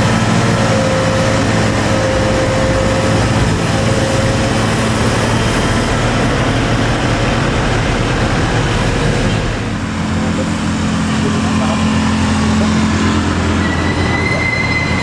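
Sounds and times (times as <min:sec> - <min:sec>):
road and tyre noise: 0:00.0 - 0:15.0
truck diesel engine: 0:00.0 - 0:15.0.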